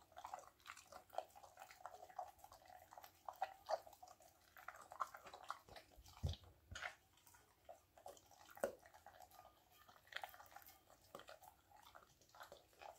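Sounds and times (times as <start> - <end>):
dog eating from a metal bowl: 0.0 - 12.9.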